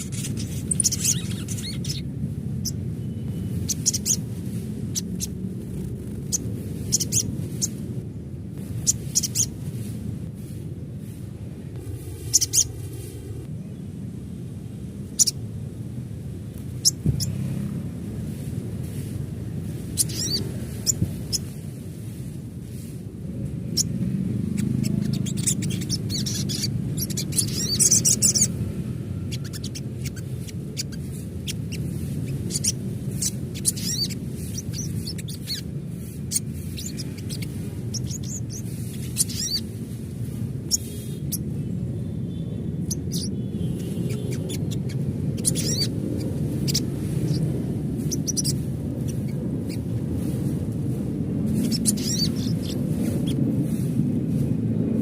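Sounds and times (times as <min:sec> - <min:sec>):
bird chirping and twittering: 0:00.0 - 0:11.2, 0:11.8 - 0:14.2, 0:15.0 - 0:54.9
low background rumble: 0:00.0 - 0:55.0.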